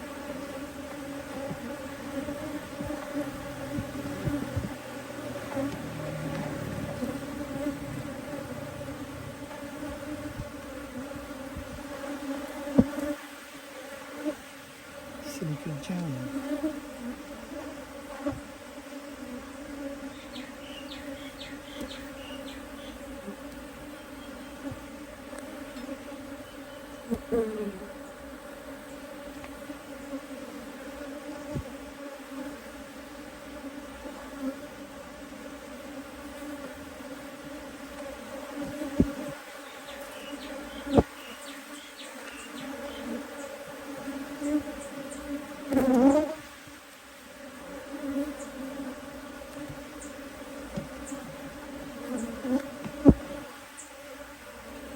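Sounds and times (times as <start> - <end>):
honeybee colony buzzing: 0.0 - 54.9
loud bee buzz bending in pitch: 0.0 - 54.9.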